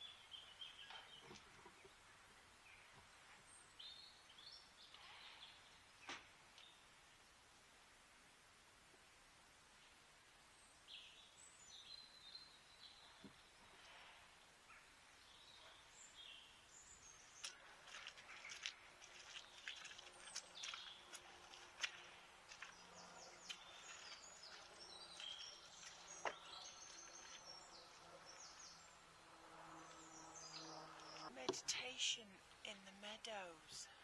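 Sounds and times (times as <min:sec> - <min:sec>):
birds chirping and trilling: 0:00.0 - 0:06.8, 0:10.6 - 0:32.2.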